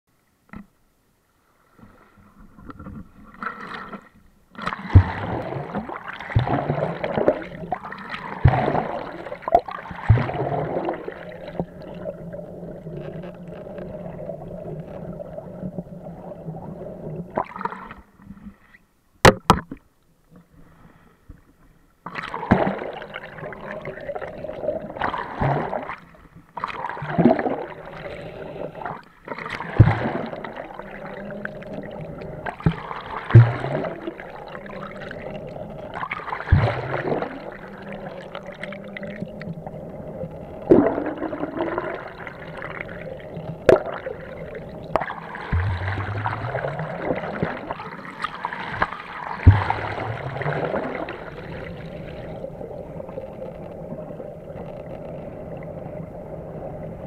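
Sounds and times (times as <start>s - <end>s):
water sloshing and splashing: 1.7s - 18.7s, 22.0s - 56.3s.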